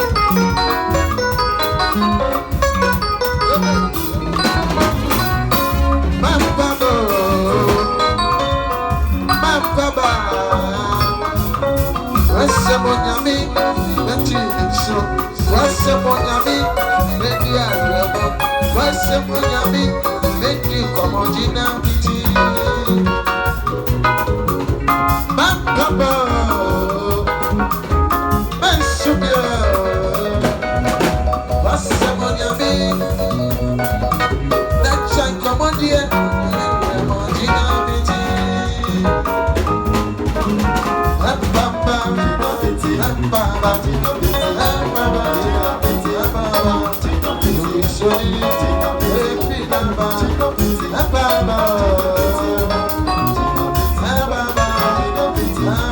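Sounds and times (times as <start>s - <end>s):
upbeat music over sound system: 0.0s - 55.9s.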